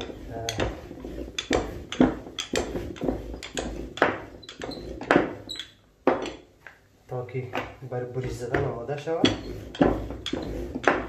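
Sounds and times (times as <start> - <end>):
rolling pin rolling over dough: 0.0 - 11.0.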